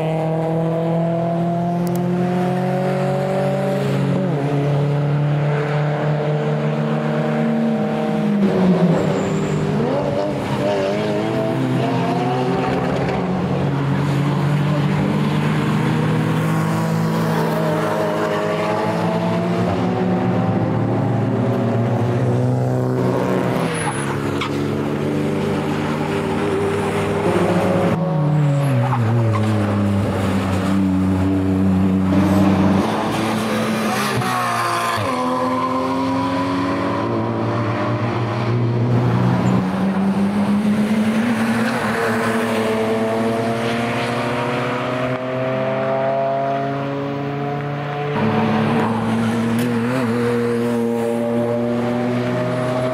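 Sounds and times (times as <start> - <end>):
racing car engines passing: 0.0 - 52.9.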